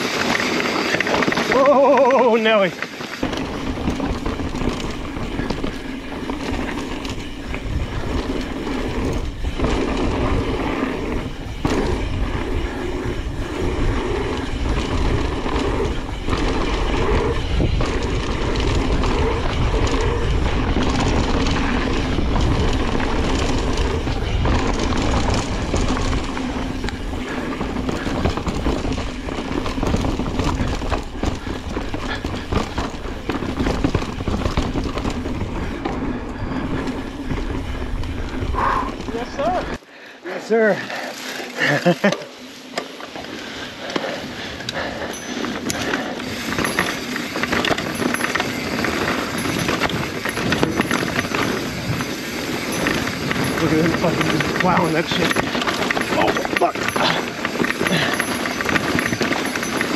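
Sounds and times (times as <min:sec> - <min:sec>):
mountain bike rattling over rocks: 0:00.0 - 0:39.8, 0:40.4 - 0:59.9.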